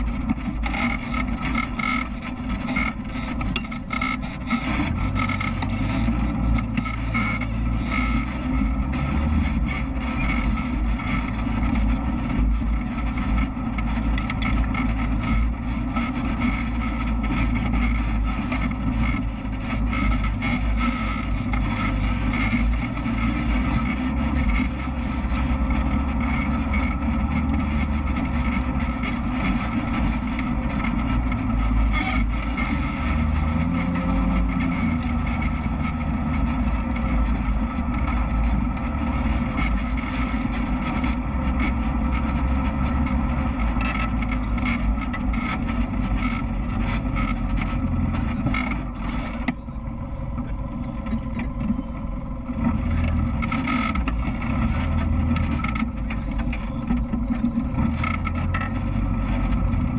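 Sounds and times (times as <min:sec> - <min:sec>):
engine running on dirt trail: 0:00.0 - 0:59.9.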